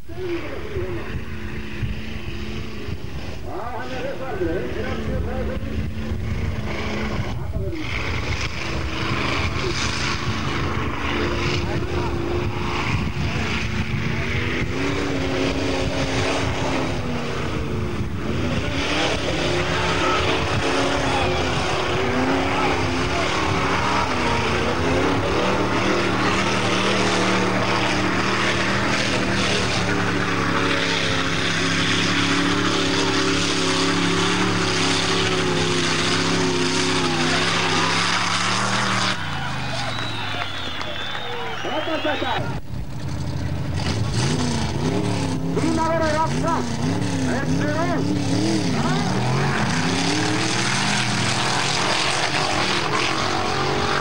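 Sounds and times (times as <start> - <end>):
buggy engine running hard: 0.0 - 54.0.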